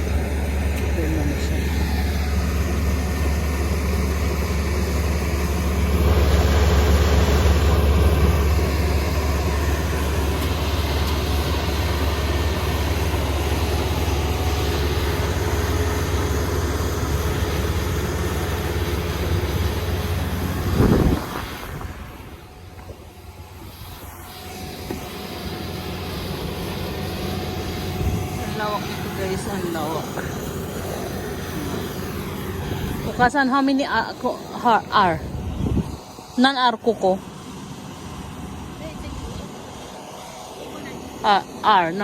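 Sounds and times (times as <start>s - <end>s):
combine harvester running: 0.0s - 42.0s.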